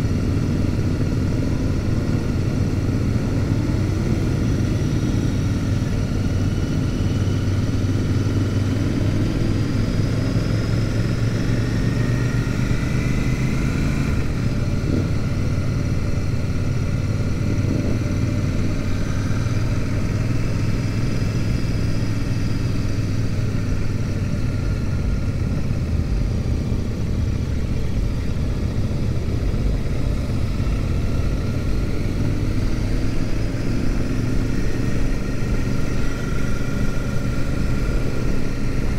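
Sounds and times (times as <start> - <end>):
motorcycle engine running: 0.0 - 38.9
other motorcycles: 0.0 - 38.9.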